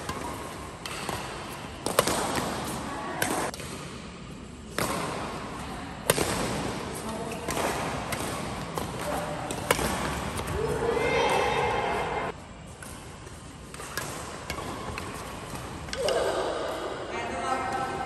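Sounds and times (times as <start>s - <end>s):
badminton racket hitting shuttlecock: 0.0s - 4.0s, 6.0s - 16.8s.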